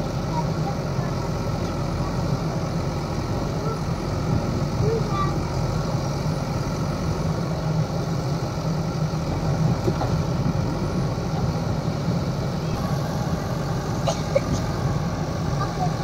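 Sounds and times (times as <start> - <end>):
backhoe loader engine running: 0.0 - 16.0
tractor diesel engine idling: 0.0 - 16.0.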